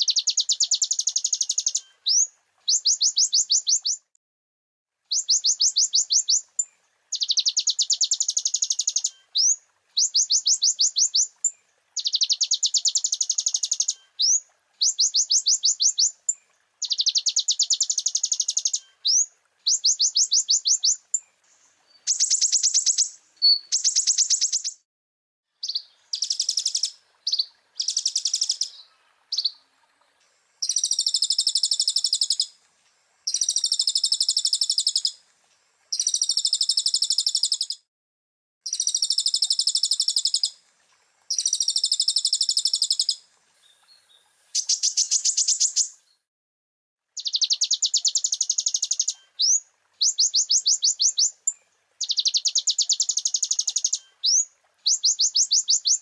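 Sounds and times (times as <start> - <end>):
bird song trills: 0.0 - 4.1, 5.1 - 24.8, 25.6 - 32.6, 33.3 - 35.2, 35.9 - 37.9, 38.6 - 40.6, 41.3 - 46.2, 47.2 - 56.0.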